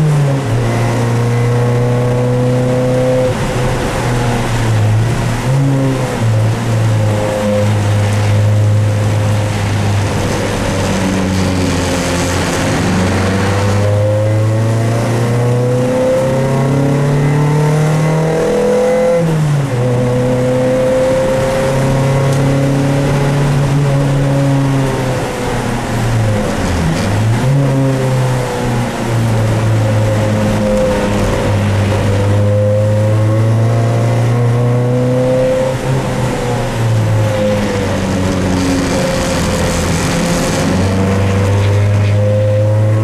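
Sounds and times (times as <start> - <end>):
race car engine accelerating: 0.0 - 43.0.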